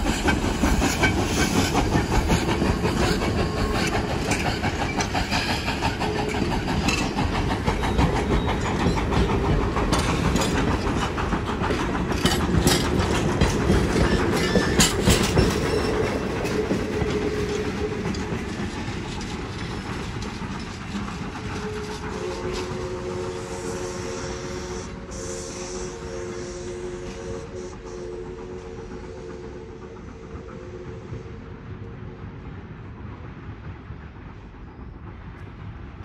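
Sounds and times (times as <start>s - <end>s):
train wheels clicking: 0.0s - 36.0s.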